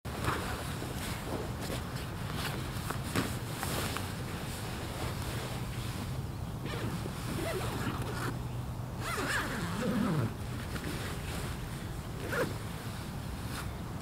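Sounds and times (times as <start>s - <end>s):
tent fabric rustling: 0.1s - 8.4s, 9.0s - 14.0s.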